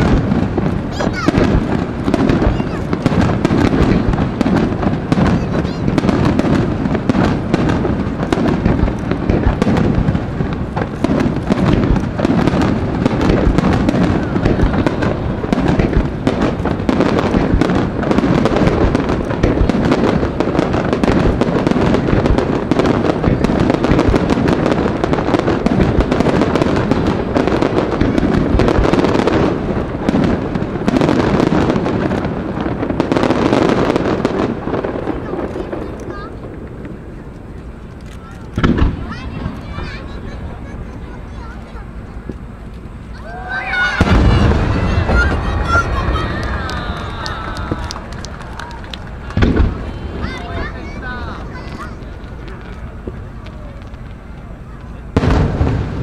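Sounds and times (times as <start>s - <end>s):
firework shells bursting: 0.0s - 56.0s.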